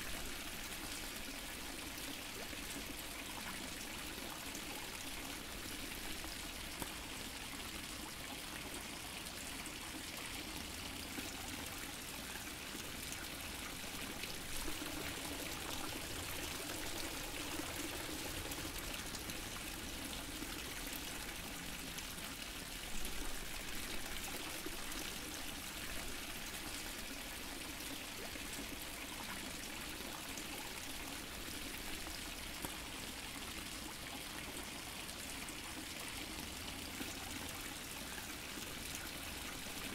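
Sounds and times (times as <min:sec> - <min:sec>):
water fountain splashing into pool: 0:00.0 - 0:39.9.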